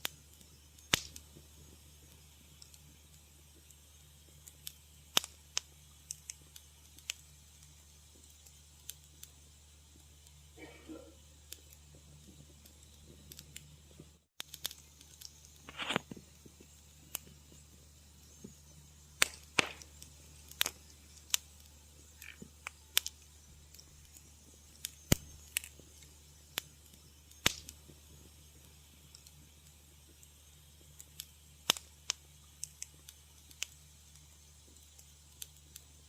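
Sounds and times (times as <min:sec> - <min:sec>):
low steady hum: 0:00.0 - 0:36.0
wood fire crackling: 0:00.0 - 0:36.0.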